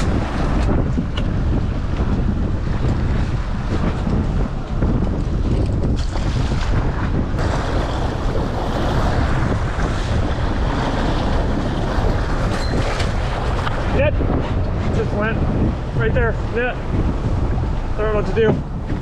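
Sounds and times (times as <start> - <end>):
water splashing along boat: 0.0 - 19.0
wind buffeting microphone: 0.0 - 19.0.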